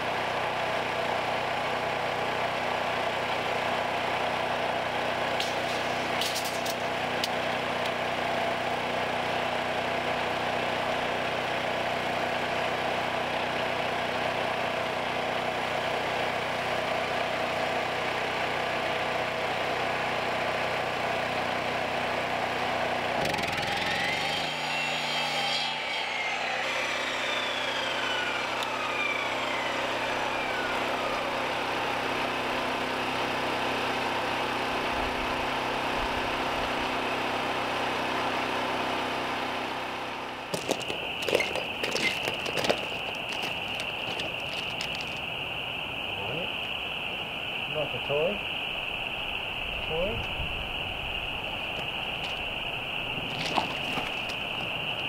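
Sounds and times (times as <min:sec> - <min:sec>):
generator running: 0:00.0 - 0:55.0
saw blade whine winding down: 0:00.0 - 0:55.0.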